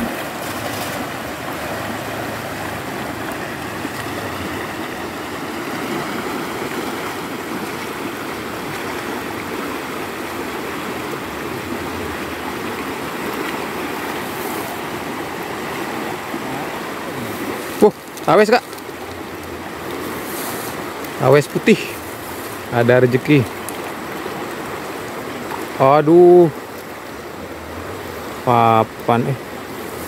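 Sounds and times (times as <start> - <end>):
river rushing over riffles: 0.0 - 30.0.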